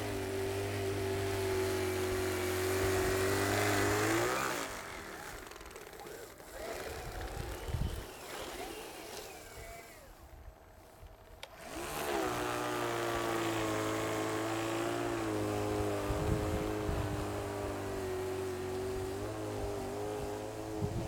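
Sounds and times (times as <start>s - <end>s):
snow blower motor whine: 0.0s - 21.0s.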